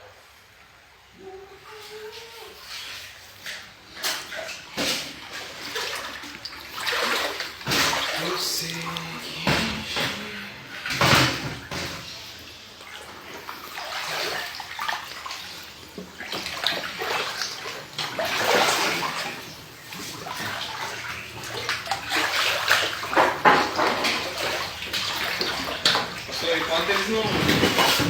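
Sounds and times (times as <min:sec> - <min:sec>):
floodwater sloshing and splashing: 0:01.2 - 0:28.0.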